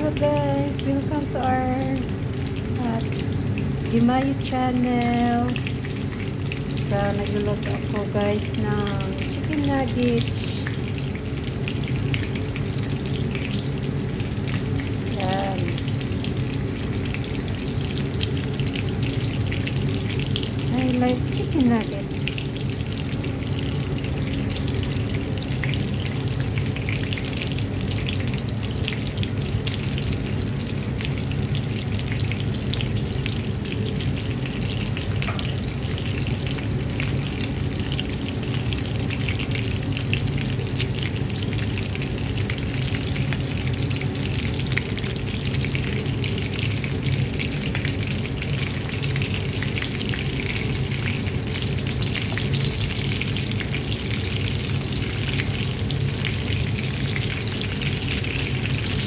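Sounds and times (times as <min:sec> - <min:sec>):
chicken sizzling in oil: 0:00.0 - 0:59.0.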